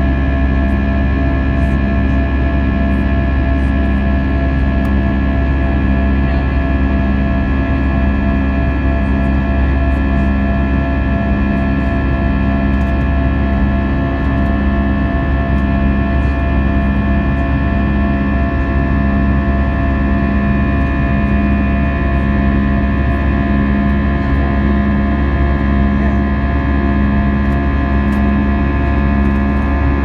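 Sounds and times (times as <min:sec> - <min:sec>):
aircraft engine drone in cabin: 0:00.0 - 0:30.0
pulsing low hum: 0:00.0 - 0:30.0.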